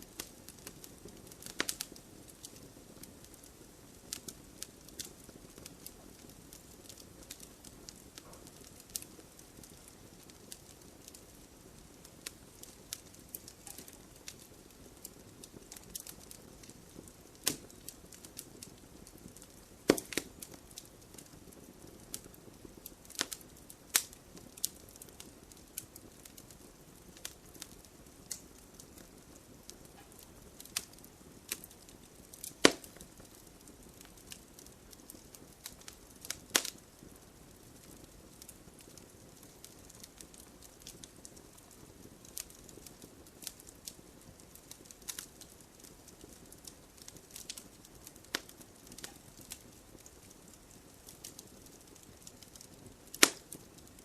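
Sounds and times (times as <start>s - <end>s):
hiss of flames: 0.0s - 54.0s
logs crackling and popping: 0.0s - 54.0s.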